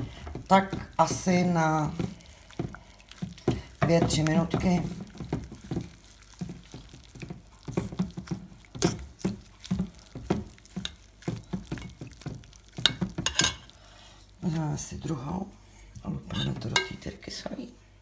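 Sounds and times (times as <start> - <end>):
fork stirring wet fabric: 0.0 - 17.4.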